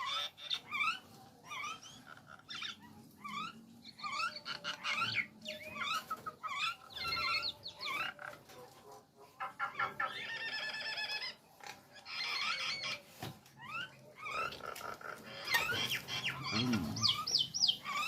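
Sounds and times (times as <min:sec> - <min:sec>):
myna whistled calls and chatter: 0:00.0 - 0:08.5, 0:09.4 - 0:18.0.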